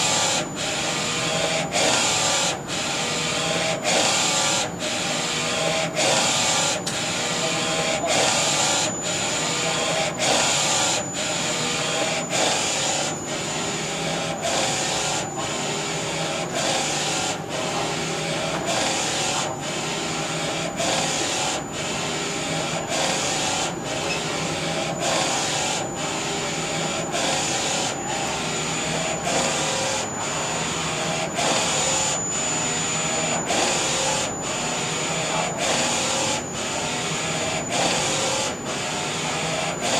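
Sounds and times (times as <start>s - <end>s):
printer carriage motor whirring: 0.0s - 39.9s.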